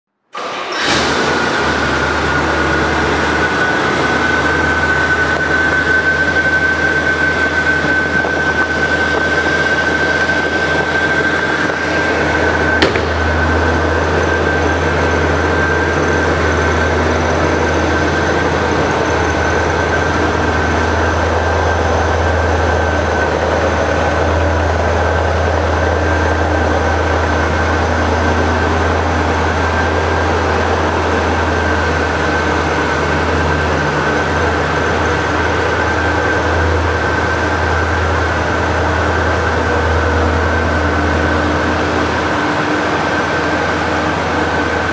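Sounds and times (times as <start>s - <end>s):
car engine idling: 0.5s - 44.9s
high whine: 1.0s - 44.9s.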